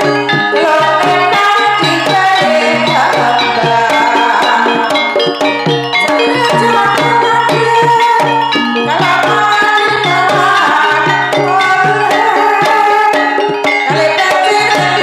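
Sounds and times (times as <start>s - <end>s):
interlocking struck melody notes: 0.0s - 15.0s.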